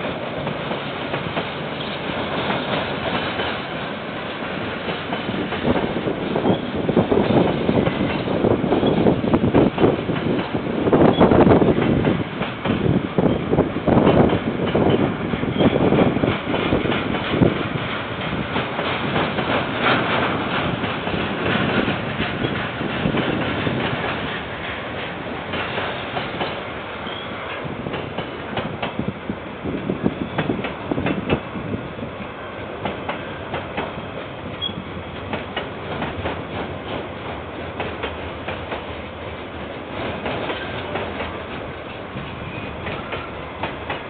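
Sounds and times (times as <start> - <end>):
wheels clacking over rail joints: 0.0 - 29.1, 29.8 - 31.5, 32.2 - 44.0
freight train wagons rolling: 0.0 - 44.0.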